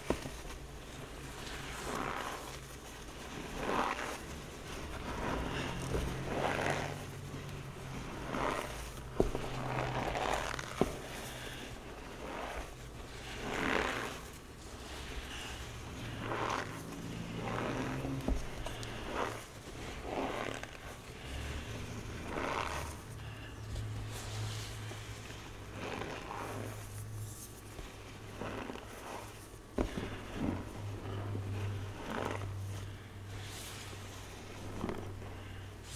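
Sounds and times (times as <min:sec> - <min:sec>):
hands crunching powdery chalk: 0:00.0 - 0:35.9
steady low hum: 0:00.0 - 0:35.9.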